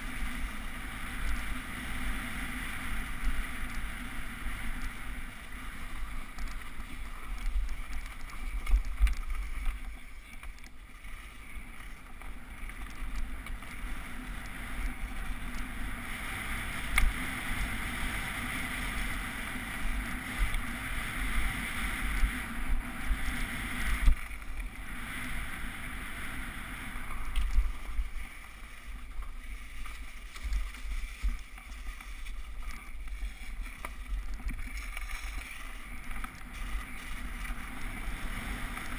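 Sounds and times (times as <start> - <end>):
bike knocking and rattling: 0.0 - 38.9
tyres hissing on frozen snow: 0.0 - 38.9
wind rumbling on microphone: 0.0 - 38.9.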